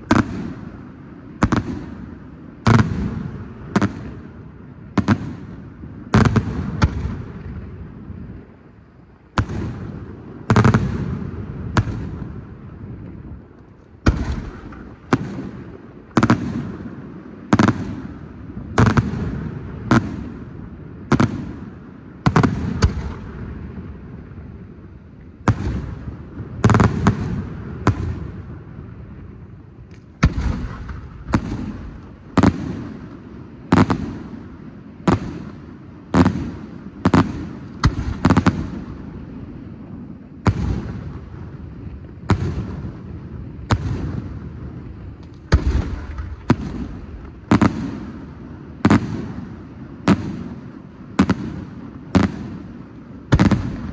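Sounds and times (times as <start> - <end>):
fireworks bangs with rumbling echo: 0.0 - 53.9.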